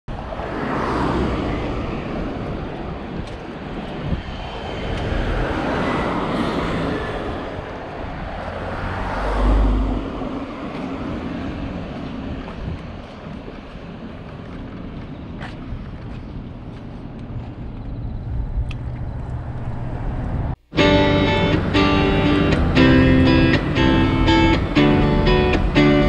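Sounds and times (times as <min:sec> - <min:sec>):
cars and vans passing: 0:00.1 - 0:26.0.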